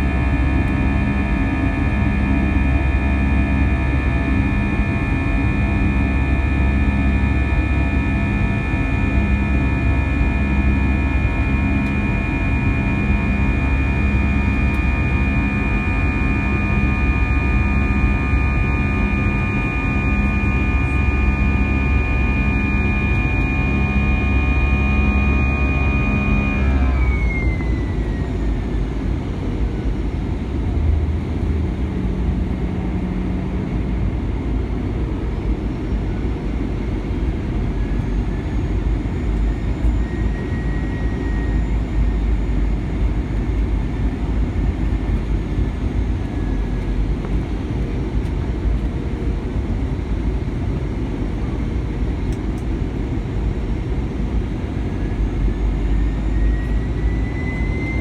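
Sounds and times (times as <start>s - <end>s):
jet engines spooling down: 0.0s - 58.0s.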